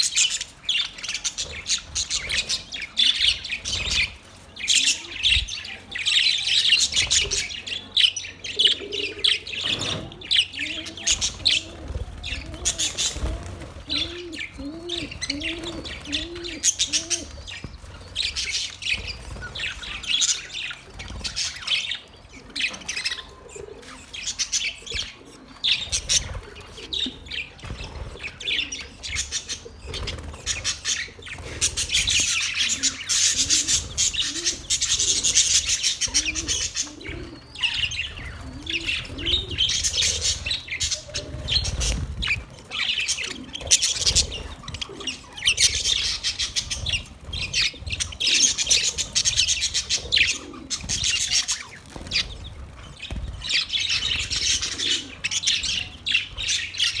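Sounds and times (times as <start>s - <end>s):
low bird calls: 0.0s - 57.0s
small birds chirping: 0.0s - 57.0s.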